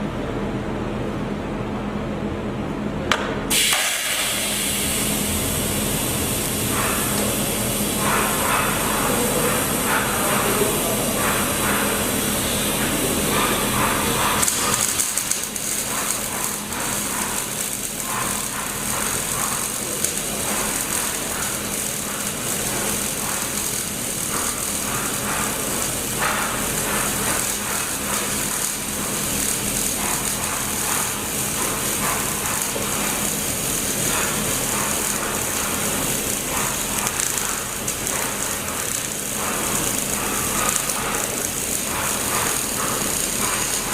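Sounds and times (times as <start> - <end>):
low electrical hum: 0.0 - 43.9
welding arc hissing and crackling: 3.5 - 43.9.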